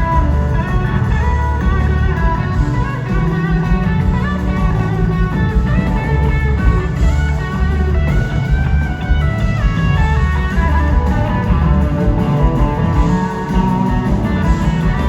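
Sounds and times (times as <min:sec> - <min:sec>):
bass: 0:00.0 - 0:15.0
drums: 0:00.0 - 0:15.0
electric guitar lead: 0:00.0 - 0:15.0.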